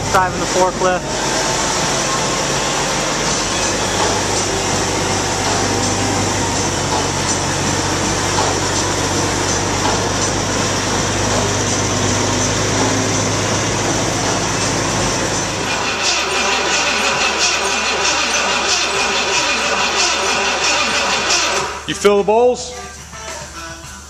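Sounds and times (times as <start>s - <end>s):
forklift engine humming: 0.0s - 21.9s.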